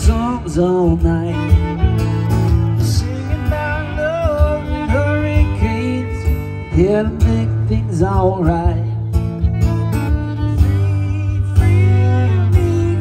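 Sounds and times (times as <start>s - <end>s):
acoustic guitar strumming: 0.0s - 13.0s
fiddle playing melody: 0.0s - 13.0s.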